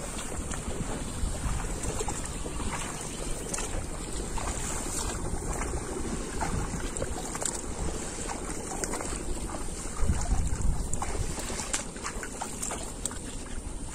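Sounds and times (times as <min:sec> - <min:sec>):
shallow water splashing: 0:00.0 - 0:13.9
wind buffeting microphone: 0:00.0 - 0:13.9.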